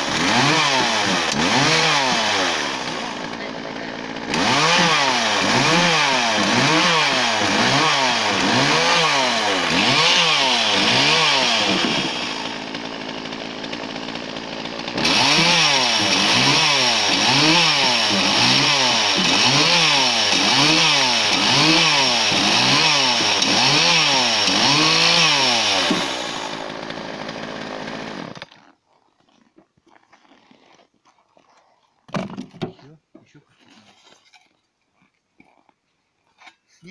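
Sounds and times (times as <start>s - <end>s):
chainsaw cutting wood: 0.0s - 29.6s.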